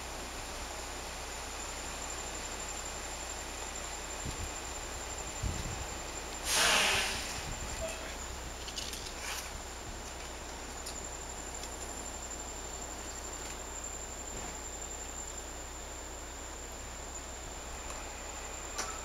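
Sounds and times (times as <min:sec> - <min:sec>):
background hiss: 0:00.0 - 0:19.0
high-pitched insect drone: 0:01.6 - 0:09.5, 0:10.7 - 0:19.0.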